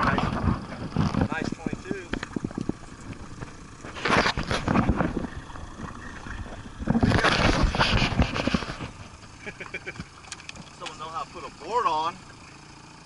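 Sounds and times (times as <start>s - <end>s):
boat noise: 0.0s - 13.0s
wind: 0.0s - 13.0s.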